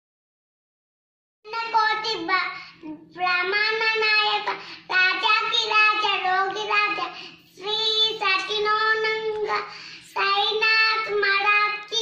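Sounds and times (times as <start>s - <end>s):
child singing devotional song: 1.5s - 12.0s.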